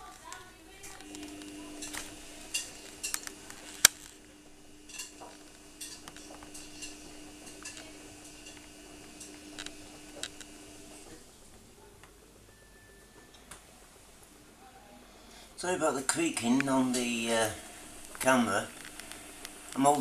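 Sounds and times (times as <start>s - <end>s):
steady low hum: 0.0s - 11.8s, 13.9s - 20.0s.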